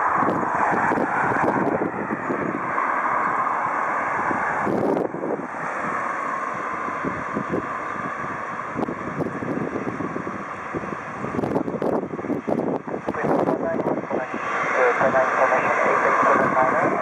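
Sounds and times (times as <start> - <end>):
jet engines humming: 0.0 - 17.0
wind buffeting microphone: 0.0 - 17.0.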